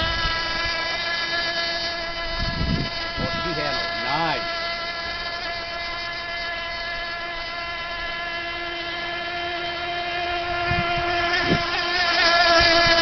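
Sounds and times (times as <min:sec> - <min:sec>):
model boat motor whine: 0:00.0 - 0:13.0.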